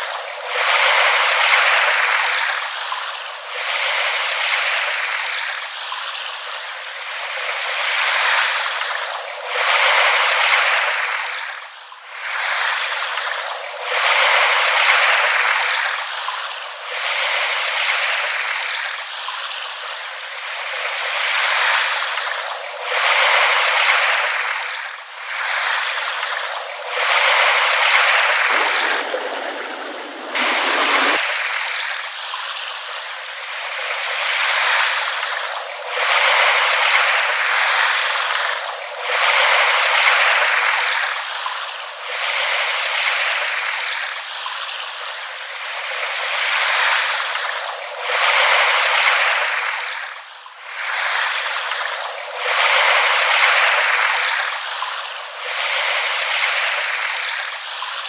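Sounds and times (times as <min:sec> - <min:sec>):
small waves lapping on shore: 0:00.0 - 0:31.6, 0:32.4 - 0:58.0.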